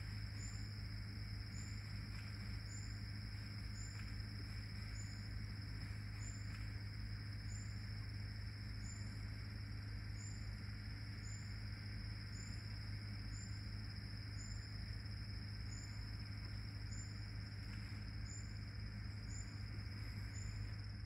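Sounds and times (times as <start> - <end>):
insects droning: 0.0 - 21.0
low hum: 0.0 - 21.0.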